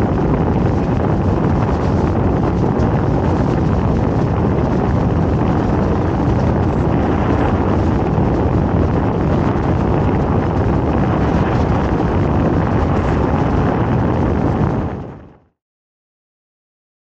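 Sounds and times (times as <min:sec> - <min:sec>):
boat engine: 0:00.0 - 0:15.0
wind buffeting microphone: 0:00.0 - 0:15.5
boat wake noise: 0:00.0 - 0:15.6.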